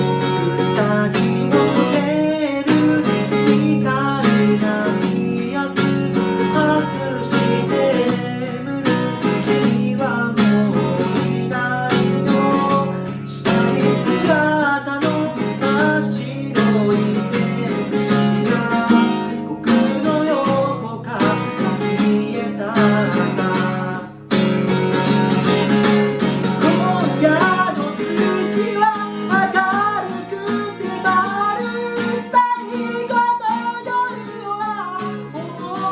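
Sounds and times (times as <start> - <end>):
person singing: 0.0 - 24.2, 25.1 - 35.9
acoustic guitar strumming: 0.0 - 35.9.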